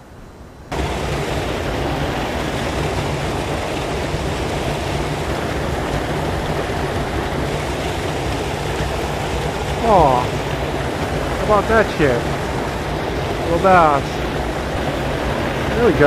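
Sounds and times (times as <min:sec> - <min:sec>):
water rushing over a spillway: 0:00.7 - 0:16.0.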